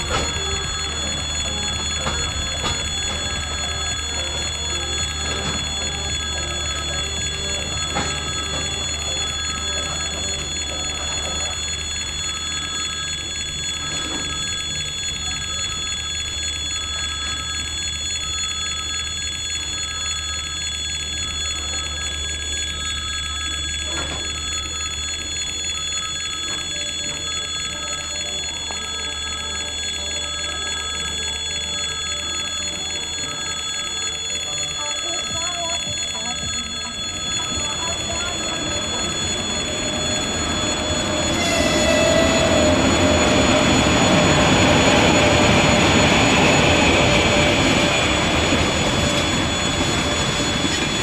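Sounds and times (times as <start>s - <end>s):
level crossing bell ringing: 0.0s - 51.0s.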